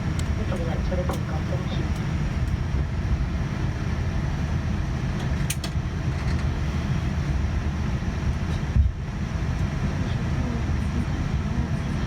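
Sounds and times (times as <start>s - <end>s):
aircraft rolling rumble: 0.0s - 12.0s.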